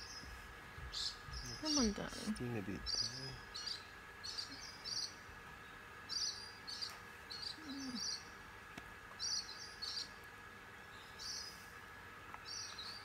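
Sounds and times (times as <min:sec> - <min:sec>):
bird chirping: 0:00.0 - 0:08.4, 0:09.1 - 0:11.7, 0:12.4 - 0:13.0
faint steady hum: 0:00.0 - 0:13.0.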